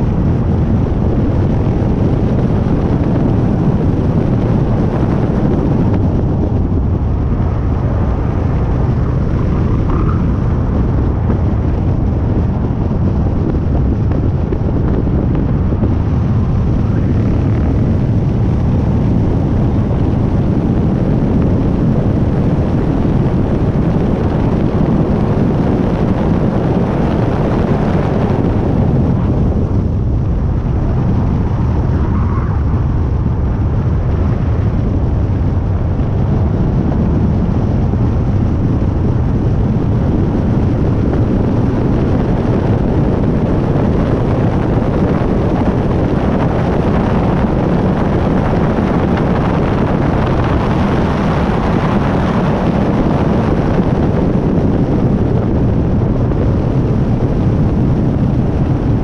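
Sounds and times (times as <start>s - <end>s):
tyre and road noise: 0.0s - 59.0s
wind buffeting microphone: 0.0s - 59.0s.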